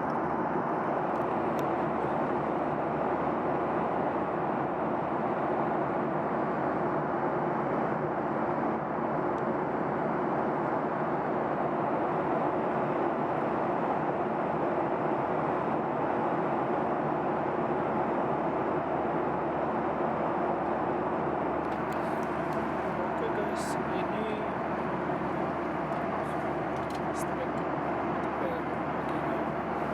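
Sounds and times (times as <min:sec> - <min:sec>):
airliner cabin engine rush: 0:00.0 - 0:29.9.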